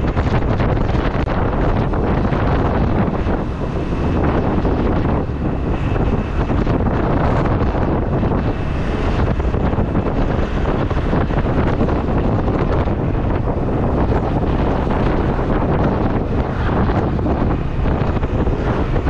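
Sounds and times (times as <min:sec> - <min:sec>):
motorcycle noise: 0:00.0 - 0:19.0
wind rushing over microphone: 0:00.0 - 0:19.0.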